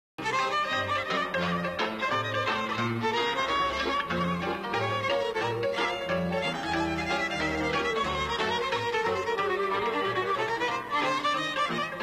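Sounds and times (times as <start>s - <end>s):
violin folk melody: 0.2s - 12.0s.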